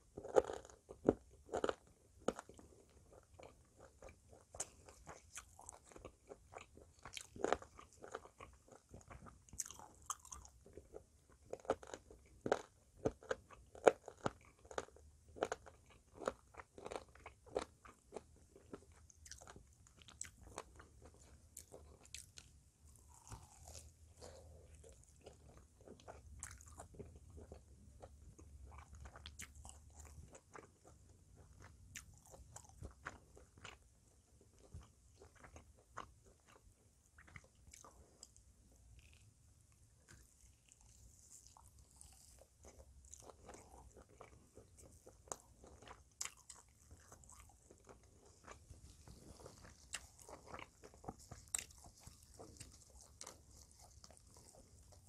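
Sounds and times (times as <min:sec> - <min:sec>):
crunchy bites and wet chewing: 0:00.0 - 0:55.0.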